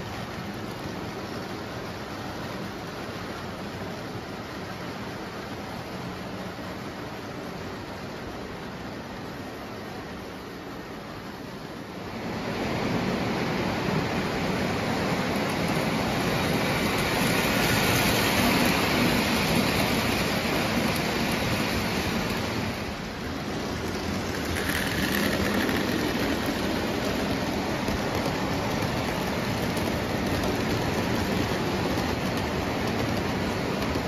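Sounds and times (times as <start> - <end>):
toy train rumbling on track: 0.0 - 34.0.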